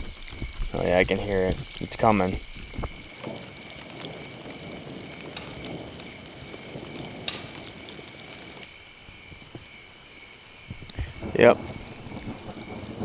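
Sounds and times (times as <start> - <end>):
meat sizzling over fire: 0.0 - 13.0
sharp crackles: 0.0 - 13.0.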